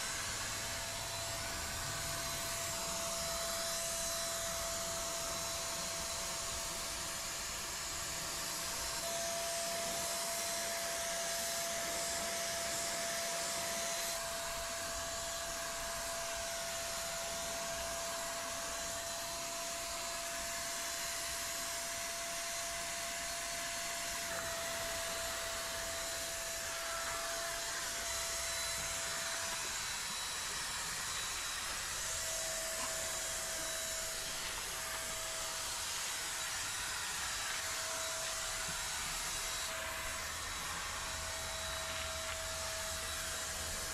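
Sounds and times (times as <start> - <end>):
paint spray gun motor whine: 0.0 - 43.9.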